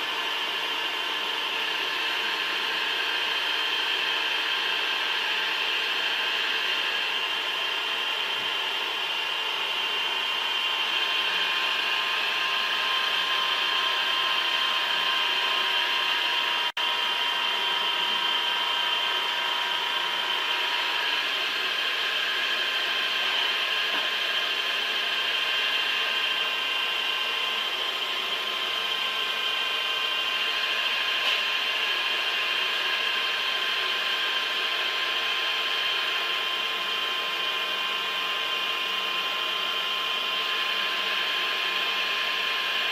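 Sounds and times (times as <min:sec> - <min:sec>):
machine tool whining: 0:00.0 - 0:42.9.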